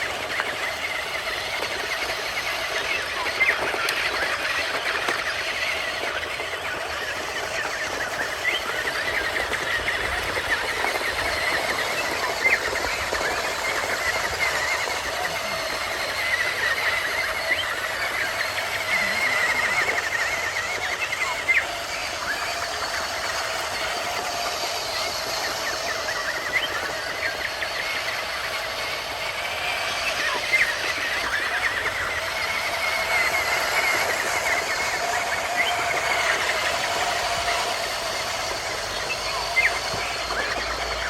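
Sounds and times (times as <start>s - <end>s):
small electric motors whirring: 0.0s - 41.0s.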